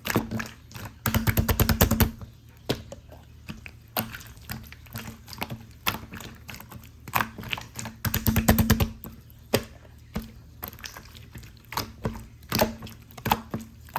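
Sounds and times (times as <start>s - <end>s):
slime clicking and popping: 0.0s - 2.9s, 4.0s - 13.9s.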